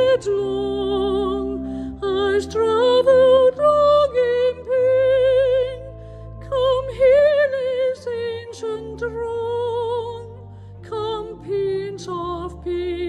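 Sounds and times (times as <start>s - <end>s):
sustained accompaniment chords: 0.0s - 13.0s
woman singing a carol: 0.0s - 13.0s.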